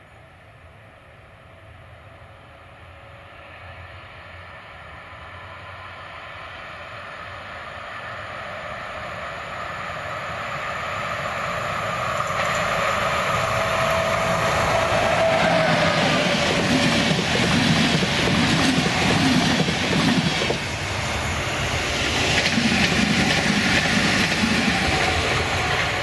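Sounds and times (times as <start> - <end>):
electric locomotive whine: 0.0 - 26.0
train rumble: 0.0 - 26.0.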